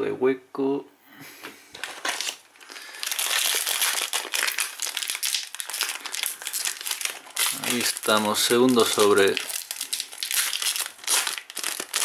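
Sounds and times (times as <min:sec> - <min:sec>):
foil pack crinkling: 0:01.8 - 0:12.0.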